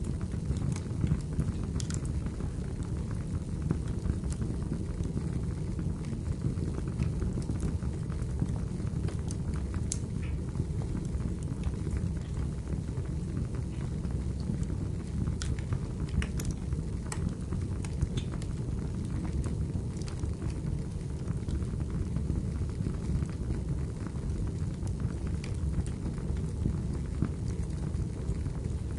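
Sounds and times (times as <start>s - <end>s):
fire crackling and popping: 0.0s - 28.9s
wood fire rumbling: 0.0s - 28.9s.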